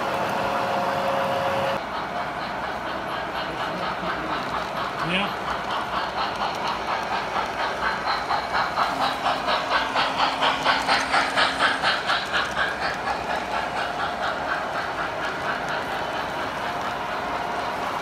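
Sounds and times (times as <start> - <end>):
model train wheels clicking on track: 0.0 - 18.0.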